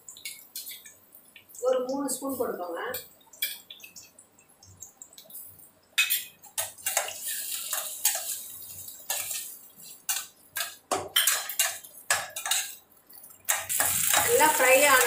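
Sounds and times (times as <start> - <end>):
sizzling in hot oil: 0.0 - 15.0.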